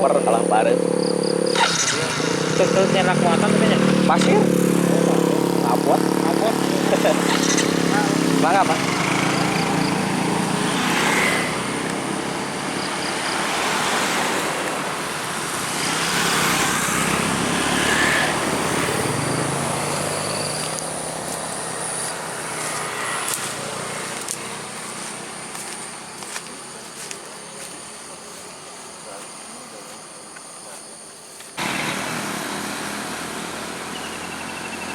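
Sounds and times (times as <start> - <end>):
vehicles passing: 0.0 - 34.9.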